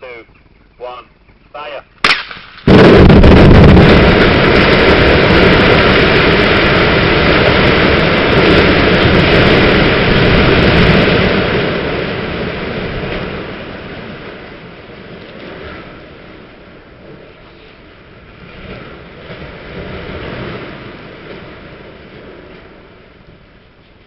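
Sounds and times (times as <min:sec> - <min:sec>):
building demolition rumble: 0:02.6 - 0:24.0.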